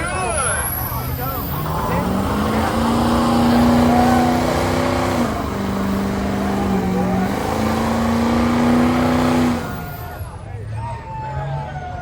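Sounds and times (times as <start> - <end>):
truck engine revving high: 0.0 - 10.4.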